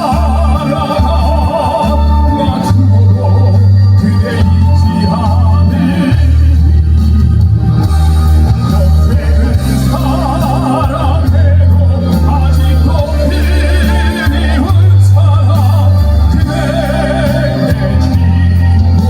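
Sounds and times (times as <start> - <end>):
backing track with loud bass: 0.0 - 19.0
man singing with vibrato: 0.0 - 19.0.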